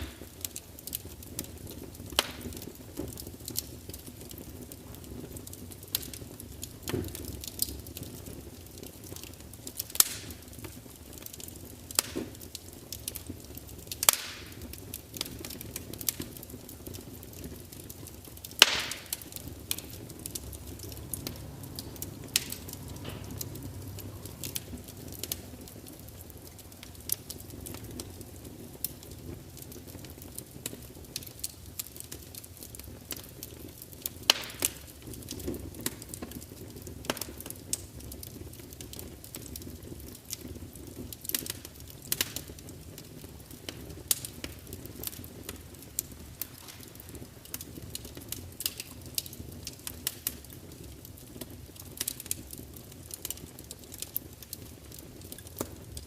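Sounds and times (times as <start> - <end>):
burning logs crackling: 0.0 - 56.0
low rumble of flames: 0.0 - 56.0.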